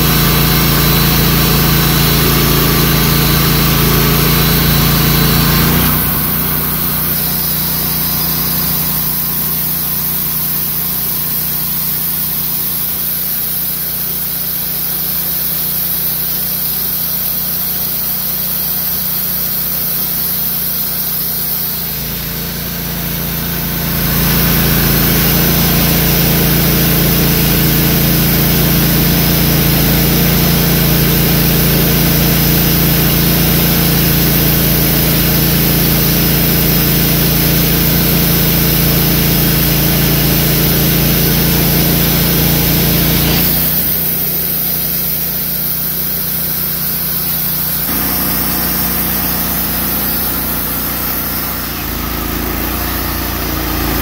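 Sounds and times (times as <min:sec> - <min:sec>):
band sawmill sawing log: 0:00.0 - 0:54.0.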